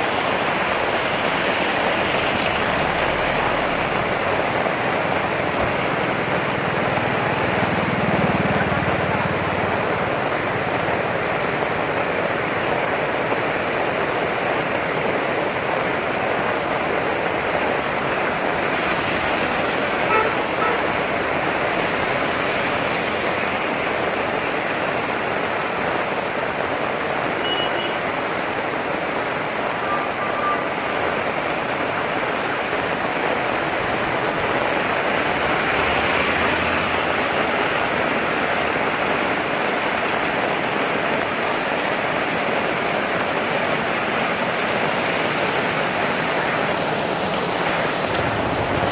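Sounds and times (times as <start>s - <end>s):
heavy rain hissing: 0.0s - 48.9s.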